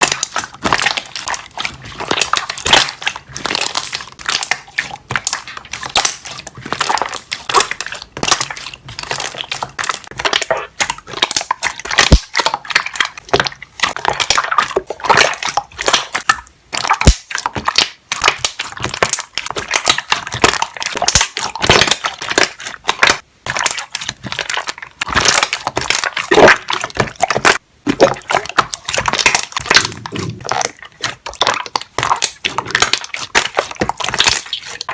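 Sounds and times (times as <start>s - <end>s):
slime air bubbles popping: 0.0s - 34.9s.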